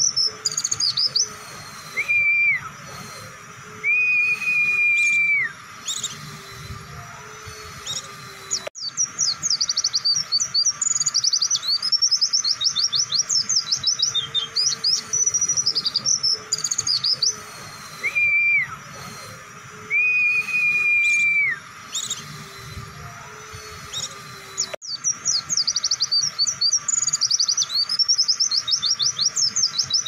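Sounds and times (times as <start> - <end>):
bird long level whistles: 0.0 - 30.0
bird twittering chirps: 0.0 - 30.0.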